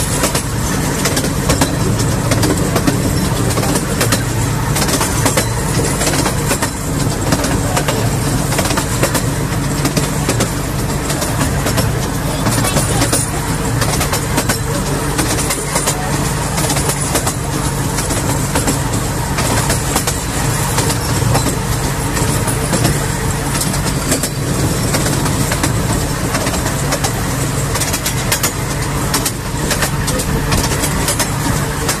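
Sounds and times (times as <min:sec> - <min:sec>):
wheels rumbling on rails: 0:00.0 - 0:32.0.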